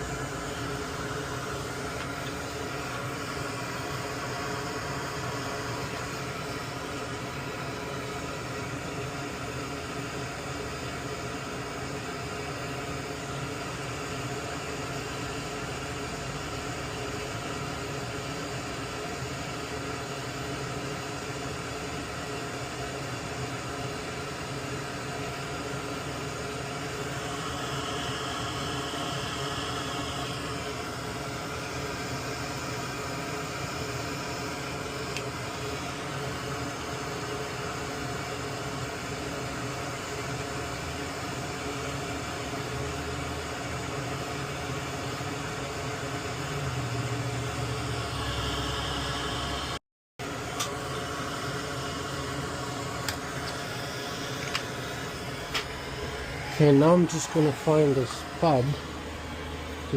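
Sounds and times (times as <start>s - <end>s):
small fan whirring: 0.0s - 59.9s.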